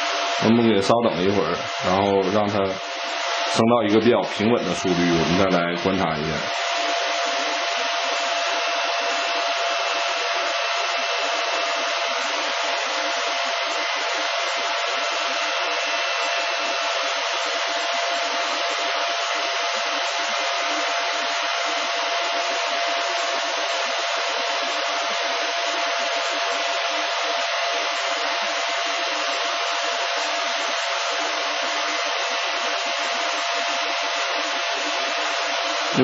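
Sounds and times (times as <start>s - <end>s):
cooling fans rushing: 0.0s - 36.0s.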